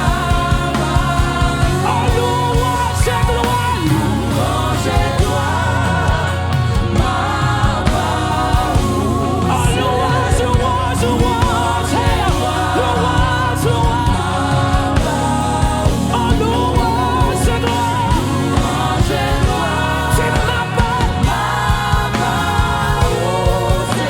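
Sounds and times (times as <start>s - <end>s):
drums and bass beat: 0.0s - 24.0s
gospel singing over a band: 0.0s - 24.0s.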